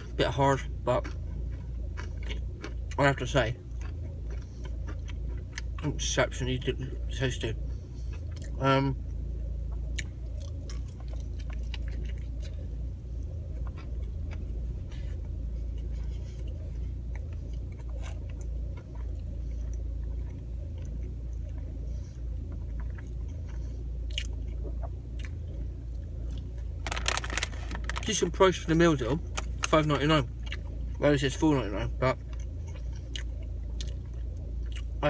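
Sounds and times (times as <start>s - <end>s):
person chewing crunchy food: 0.0s - 6.0s, 7.6s - 31.0s, 32.2s - 35.0s
car interior rumble: 0.0s - 35.0s.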